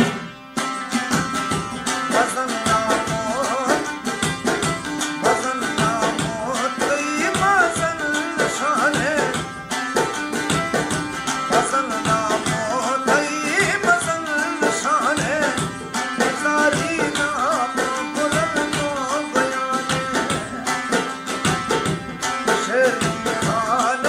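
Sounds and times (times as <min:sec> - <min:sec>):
folk music with fast drums: 0:00.0 - 0:24.0.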